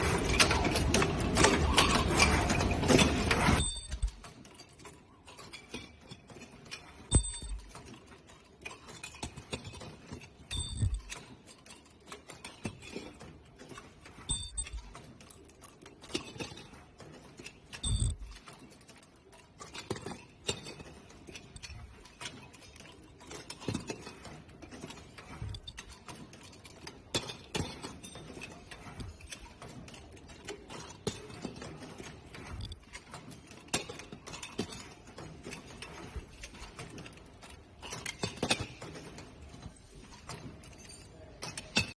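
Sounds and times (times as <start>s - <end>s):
mechanical clicking and clattering: 0.0s - 41.9s.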